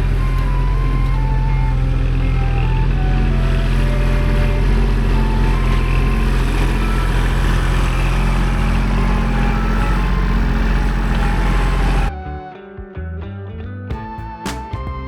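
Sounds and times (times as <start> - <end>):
tractor diesel engine running: 0.0 - 12.1.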